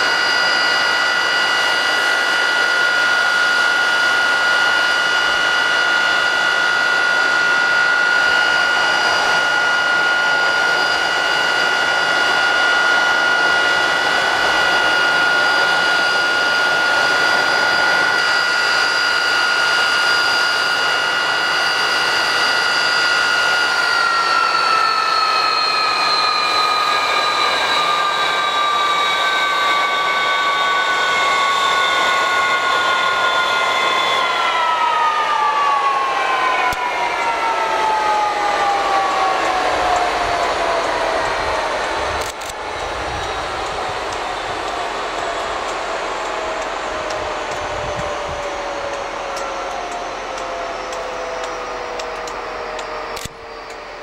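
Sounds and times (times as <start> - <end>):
jet engine running: 0.0 - 54.0.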